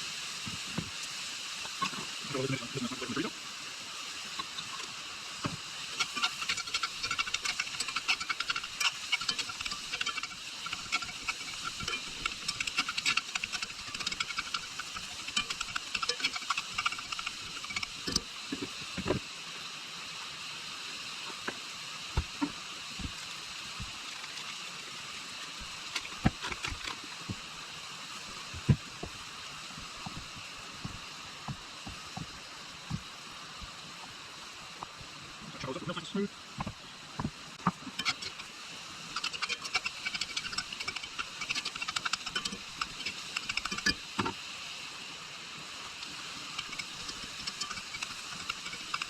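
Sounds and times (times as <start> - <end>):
food sizzling in a frying pan: 0.0 - 49.0.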